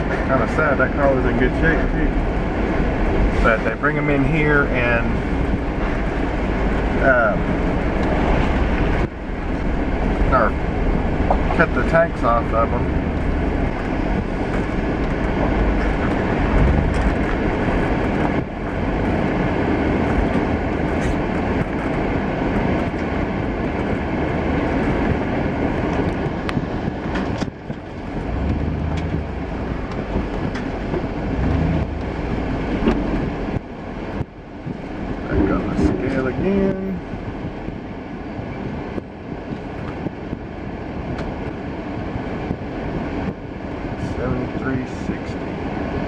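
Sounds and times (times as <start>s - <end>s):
pickup truck engine rumble: 0.0s - 46.0s
tyres rolling on wet pavement: 0.0s - 46.0s.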